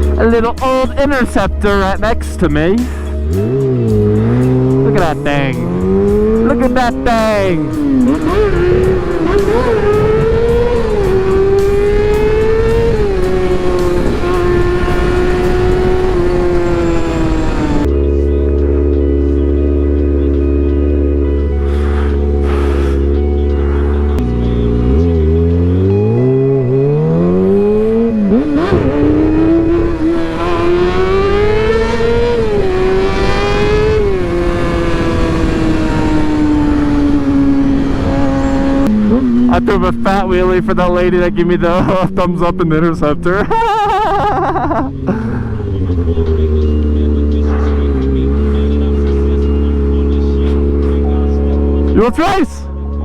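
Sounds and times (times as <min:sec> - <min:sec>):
motorcycle engine running: 0:00.0 - 0:52.0
wind and road rush: 0:00.0 - 0:53.0.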